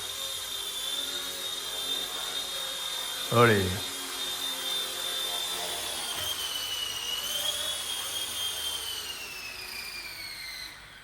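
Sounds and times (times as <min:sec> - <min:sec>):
rc helicopter rotor whine: 0:00.0 - 0:11.0.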